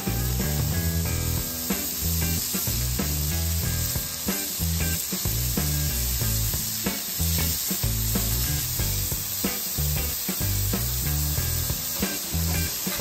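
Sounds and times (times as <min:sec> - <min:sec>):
background music with a beat: 0:00.0 - 0:13.0
meat sizzling on a griddle: 0:00.0 - 0:13.0.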